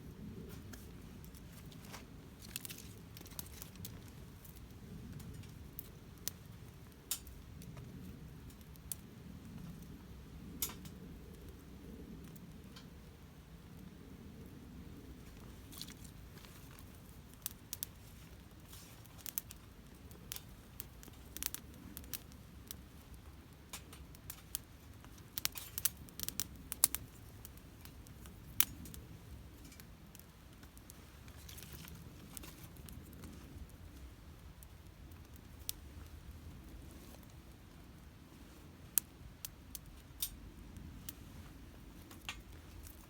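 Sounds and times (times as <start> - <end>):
campfire crackling and popping: 0.0 - 43.0
low steady rumble: 0.0 - 43.0.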